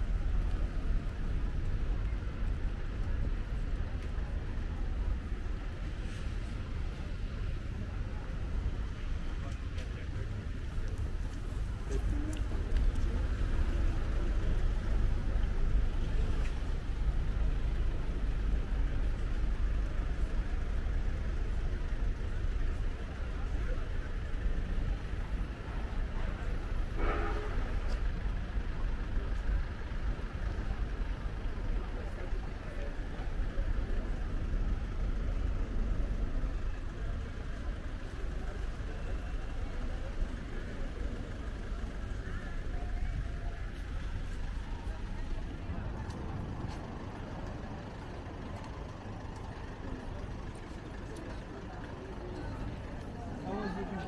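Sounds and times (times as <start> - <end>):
distant voices: 0.0 - 54.0
low rumble of city ambience: 0.0 - 54.0.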